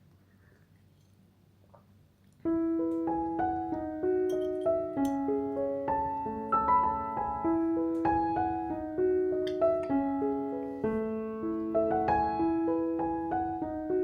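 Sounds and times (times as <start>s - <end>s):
gentle piano melody: 2.4s - 14.0s.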